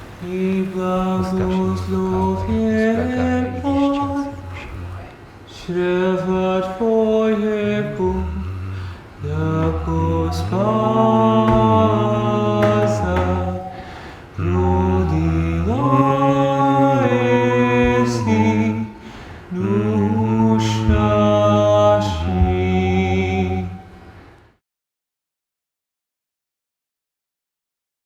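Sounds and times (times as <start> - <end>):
unaccompanied choir chanting: 0.0 - 24.2.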